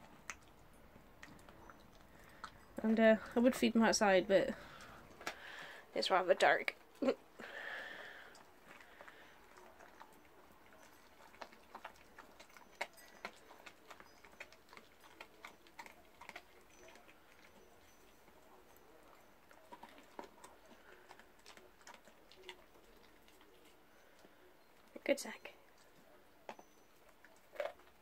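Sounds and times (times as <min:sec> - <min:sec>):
dog crunching on bone: 0:00.0 - 0:04.0, 0:04.6 - 0:24.9, 0:25.7 - 0:28.0.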